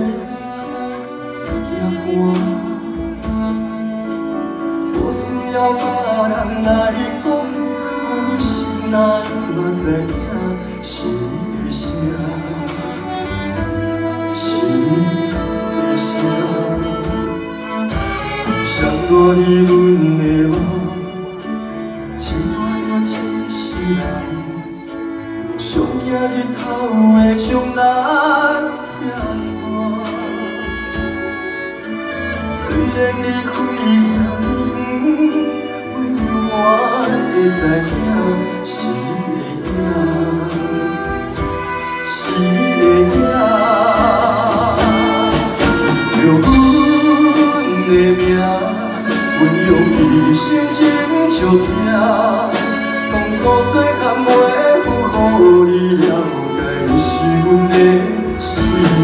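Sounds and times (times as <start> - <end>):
man singing a slow ballad: 0.0 - 3.8, 4.8 - 31.0, 32.5 - 41.4, 42.0 - 59.0
keyboard and strings ensemble: 0.0 - 59.0.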